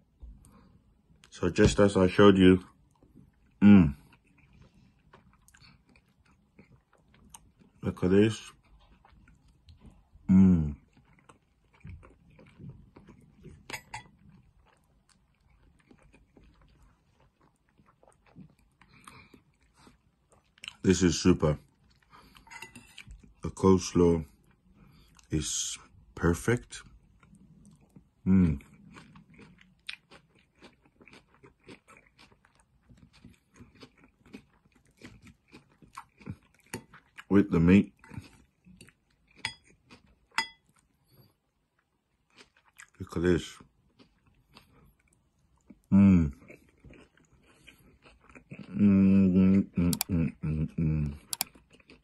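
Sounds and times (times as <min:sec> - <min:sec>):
chewing salad with crunching: 0:00.1 - 0:52.0.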